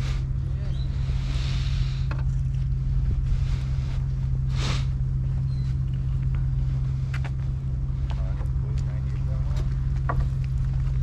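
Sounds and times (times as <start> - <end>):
constant low hum: 0.0 - 11.0
wind buffeting microphone: 0.0 - 11.0.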